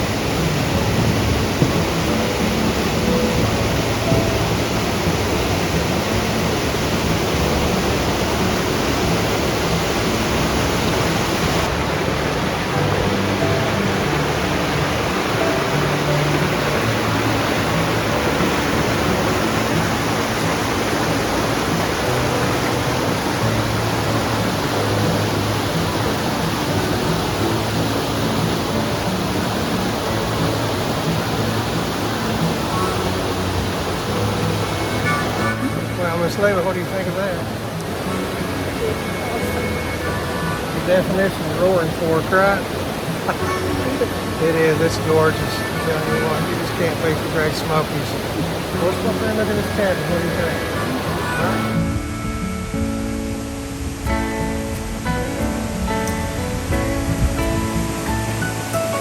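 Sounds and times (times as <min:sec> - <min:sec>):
mountain stream rushing over rocks: 0:00.0 - 0:59.0.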